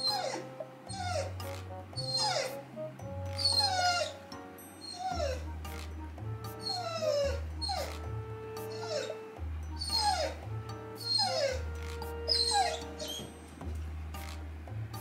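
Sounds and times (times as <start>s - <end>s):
dog whining: 0.0s - 2.6s, 3.3s - 5.9s, 6.5s - 13.4s.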